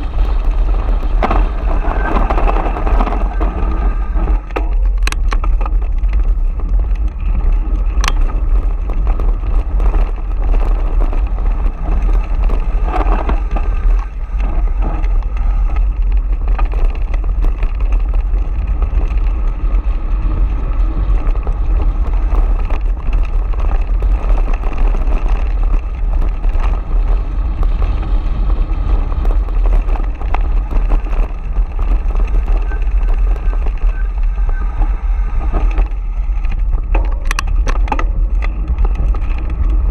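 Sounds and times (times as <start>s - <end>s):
bike clicks and rattles: 0.0s - 39.9s
wind on microphone: 0.0s - 39.9s.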